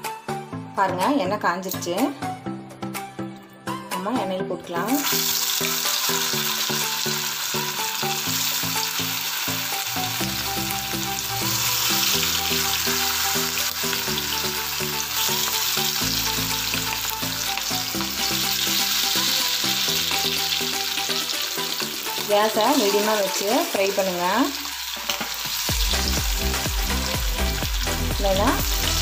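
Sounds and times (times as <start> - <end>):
background music with bass: 0.0 - 29.0
chicken deep-frying in oil: 4.8 - 29.0.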